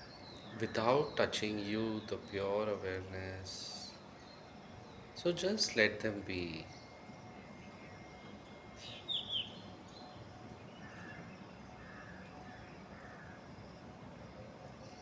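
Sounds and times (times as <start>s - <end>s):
birds chirping: 0.0s - 13.7s.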